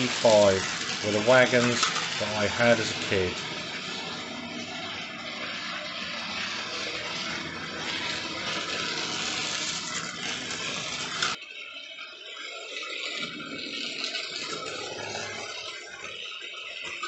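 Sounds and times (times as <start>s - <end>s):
model train whirring on track: 0.0s - 17.0s.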